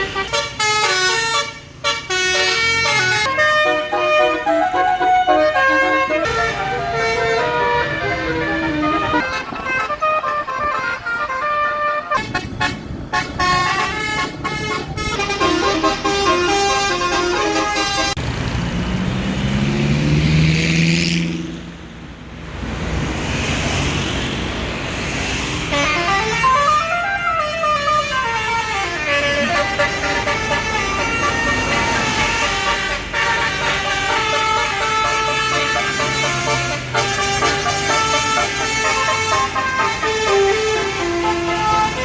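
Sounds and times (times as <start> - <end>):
multi-tone bus horn melody: 0.0 - 18.3, 25.6 - 42.0
long horn tone sliding in pitch: 0.2 - 18.2, 25.7 - 42.0.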